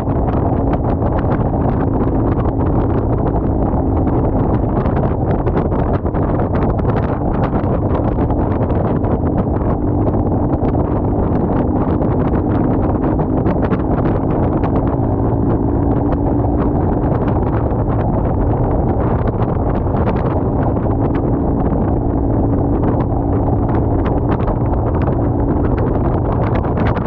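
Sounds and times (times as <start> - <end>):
motorcycle engine drone: 0.0 - 27.0
wind rush on microphone: 0.0 - 27.0.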